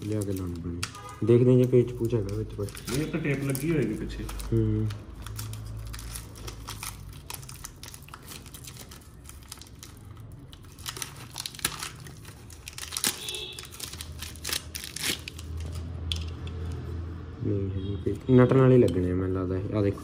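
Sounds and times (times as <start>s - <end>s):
crinkling tearing handling noise: 0.0s - 16.8s.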